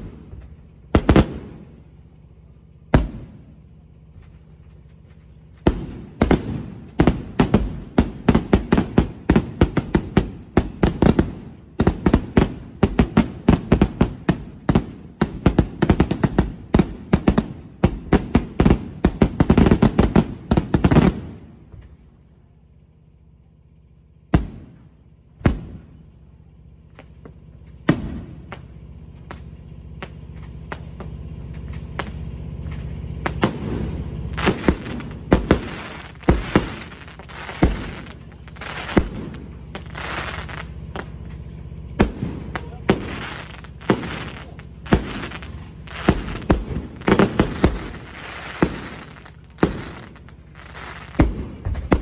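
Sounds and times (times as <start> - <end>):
fireworks bangs: 0.0 - 22.1, 24.3 - 26.2, 26.8 - 52.0.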